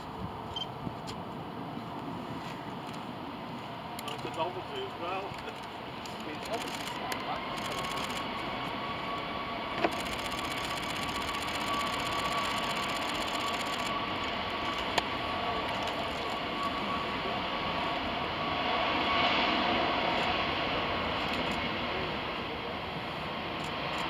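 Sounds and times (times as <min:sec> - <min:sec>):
jet engine roar with fan whine: 0:00.0 - 0:24.0.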